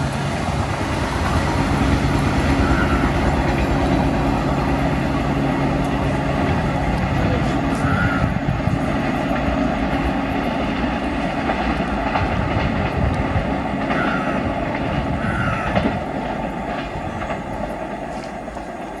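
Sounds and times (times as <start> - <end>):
train rushing noise: 0.0 - 19.0
train wheels clattering: 0.0 - 19.0.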